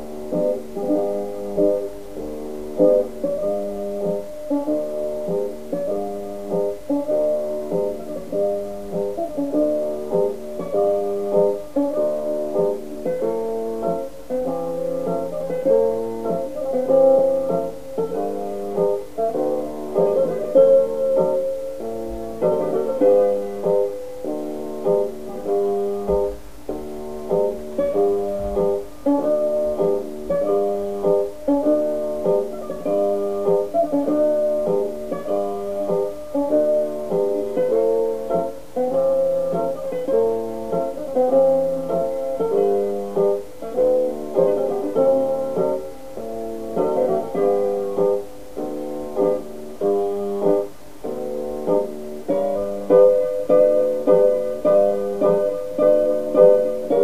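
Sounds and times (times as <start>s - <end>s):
instrumental background music: 0.0s - 57.0s.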